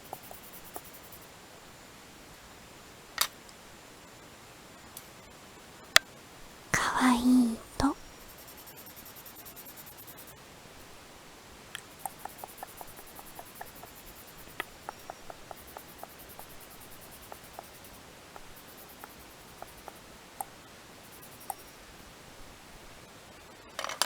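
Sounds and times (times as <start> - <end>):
faint hiss: 0.0 - 24.0.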